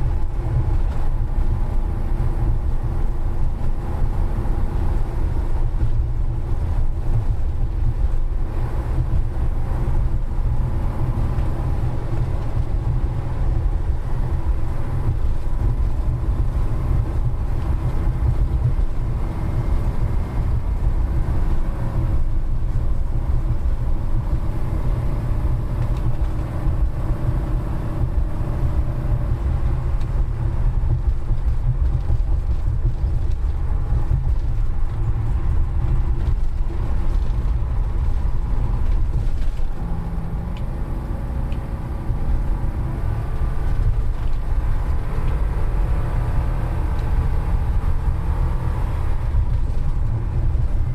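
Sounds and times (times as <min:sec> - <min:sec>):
vehicle road rumble and engine drone: 0:00.0 - 0:50.9.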